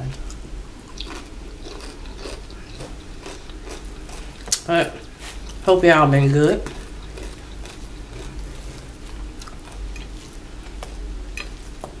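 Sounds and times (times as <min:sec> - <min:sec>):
low steady hum: 0:00.0 - 0:12.0
person chewing food: 0:00.1 - 0:05.6, 0:06.6 - 0:12.0.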